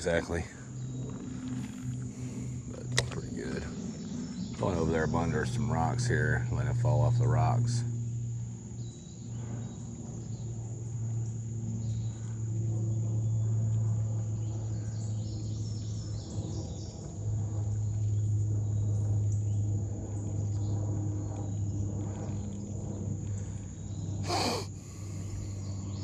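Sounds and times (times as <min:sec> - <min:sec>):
insects trilling: 0:00.0 - 0:26.0
low rumble: 0:00.0 - 0:26.0.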